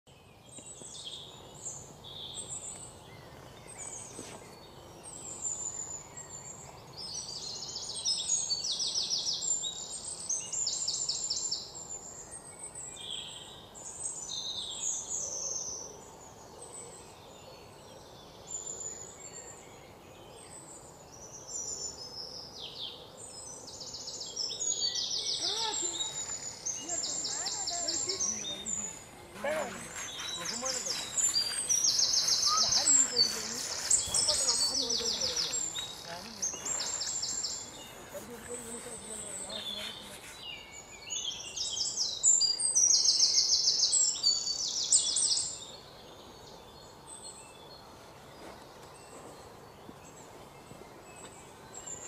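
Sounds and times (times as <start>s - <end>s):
forest birds chirping and trilling: 0.1s - 52.0s
low background hiss: 0.2s - 52.0s.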